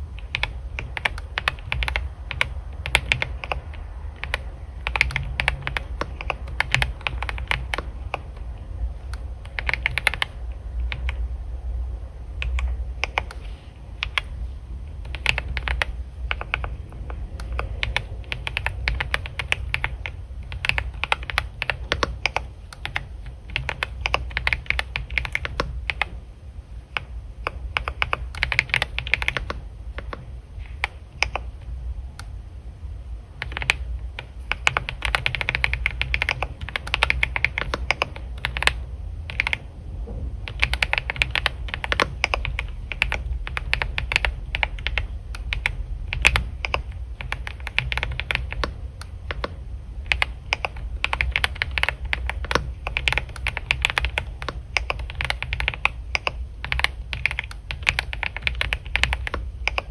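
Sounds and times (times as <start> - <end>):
steady low hum: 0.0 - 59.9
typing on computer keyboard: 0.1 - 11.3, 12.4 - 13.4, 14.0 - 26.2, 26.8 - 32.3, 33.3 - 39.7, 40.4 - 59.9.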